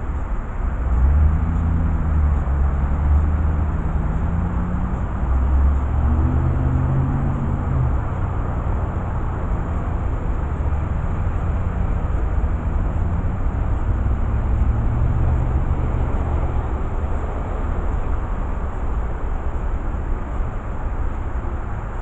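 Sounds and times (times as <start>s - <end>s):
constant background noise: 0.0s - 22.0s
vehicle engine rumble: 0.0s - 22.0s.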